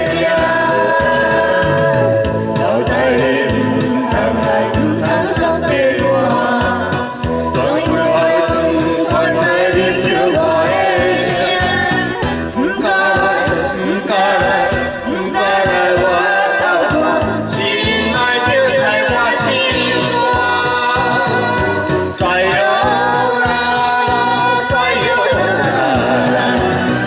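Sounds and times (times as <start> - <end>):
group of people singing: 0.0 - 27.0
karaoke backing track: 0.0 - 27.0.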